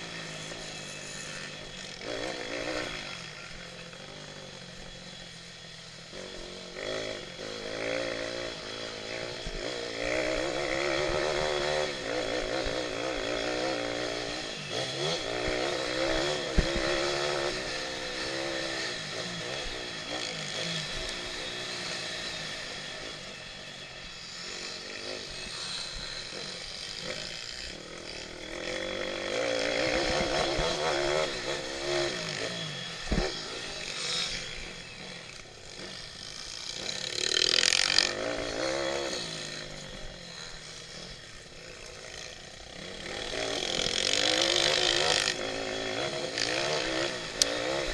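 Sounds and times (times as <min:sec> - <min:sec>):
pit bike engines revving: 0:00.0 - 0:47.9.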